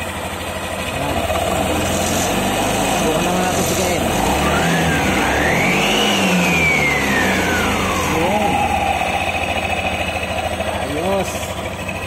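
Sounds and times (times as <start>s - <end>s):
scooter engine revving with whine: 0.0s - 12.0s.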